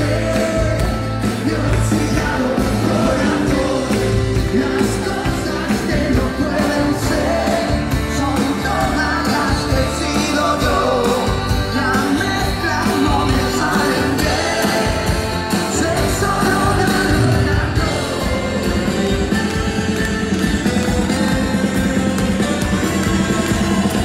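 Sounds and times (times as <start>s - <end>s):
acoustic guitar: 0.0s - 24.0s
live rock and roll band: 0.0s - 24.0s
upright double bass: 0.0s - 24.0s
voices singing: 0.0s - 24.0s.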